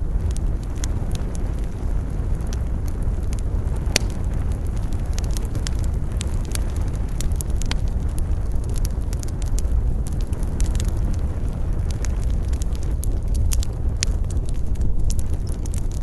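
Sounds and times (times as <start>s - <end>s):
campfire wood crackling and popping: 0.0s - 16.0s
low rumble of wind: 0.0s - 16.0s.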